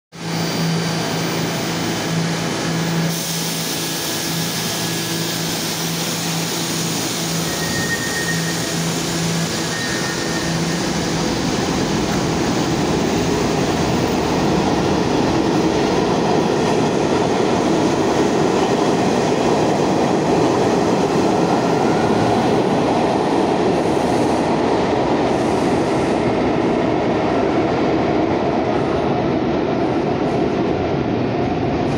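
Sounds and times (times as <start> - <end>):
train wheels rumbling on track: 0.1 - 31.9.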